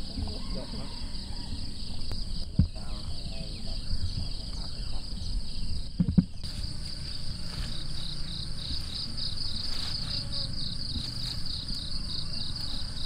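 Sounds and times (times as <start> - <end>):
insects chirping in a pulsing trill: 0.0 - 13.0.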